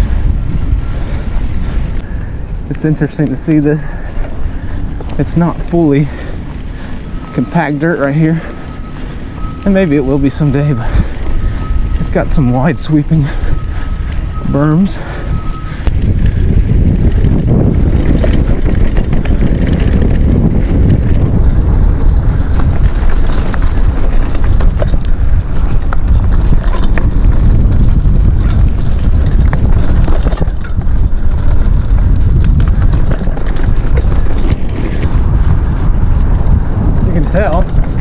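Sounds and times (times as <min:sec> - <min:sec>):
bike clicks and rattles: 0:00.0 - 0:38.0
bike tyre noise on dirt: 0:00.0 - 0:38.0
wind buffeting microphone: 0:00.0 - 0:38.0.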